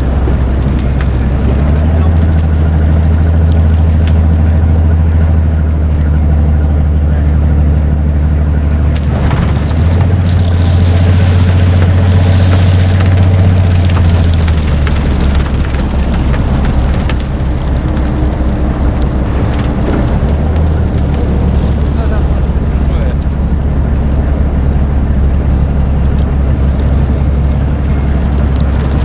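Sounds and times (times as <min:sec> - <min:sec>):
snow blower machine drone: 0:00.0 - 0:29.0.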